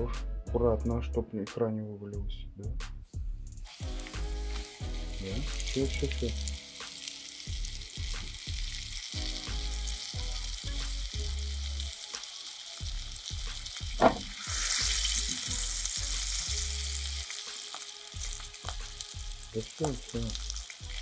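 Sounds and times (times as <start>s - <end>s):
fish sizzling in hot oil: 3.6s - 21.0s.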